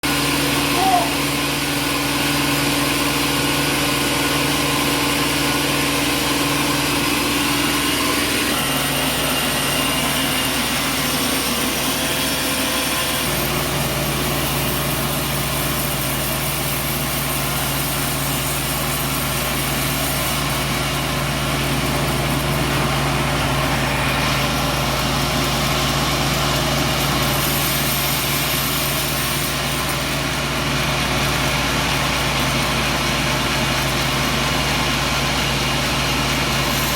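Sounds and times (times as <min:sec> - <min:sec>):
sawmill machinery humming: 0:00.0 - 0:36.9.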